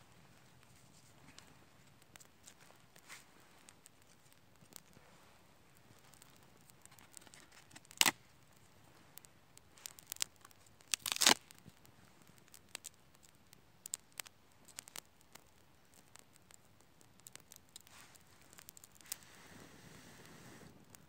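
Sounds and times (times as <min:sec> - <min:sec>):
kindling fire crackling: 0:00.0 - 0:21.0.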